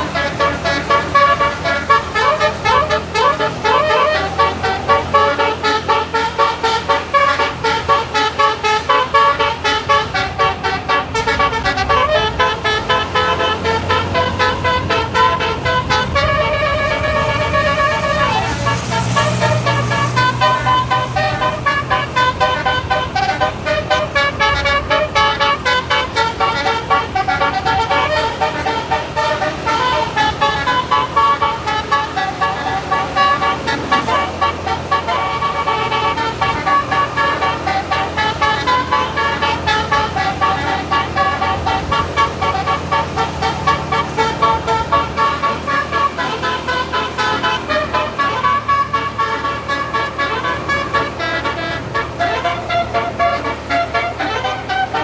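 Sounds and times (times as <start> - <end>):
multi-tone musical bus horn: 0.0 - 55.0.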